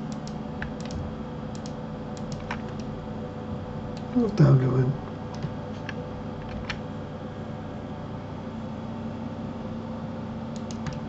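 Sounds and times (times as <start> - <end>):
low background hum and hiss: 0.0 - 11.0.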